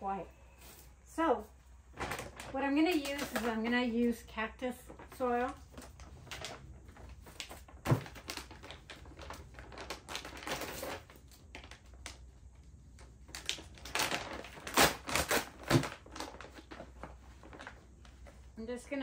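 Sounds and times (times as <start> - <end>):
soil clicks and rustles: 1.9 - 19.0.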